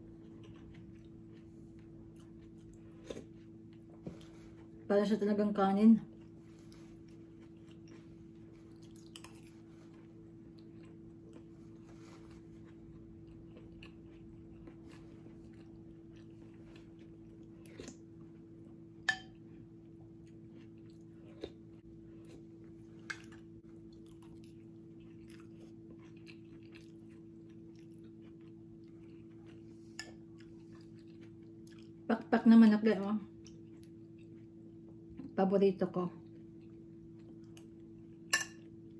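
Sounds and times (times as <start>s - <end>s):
quiet chewing: 0.0s - 4.8s, 6.0s - 32.1s, 33.3s - 35.4s, 36.2s - 38.9s
steady low hum: 0.0s - 38.9s.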